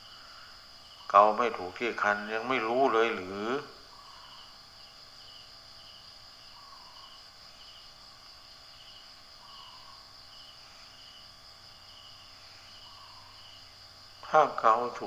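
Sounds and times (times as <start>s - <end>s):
insect chirps: 0.0s - 15.0s
insects trilling: 0.0s - 15.0s.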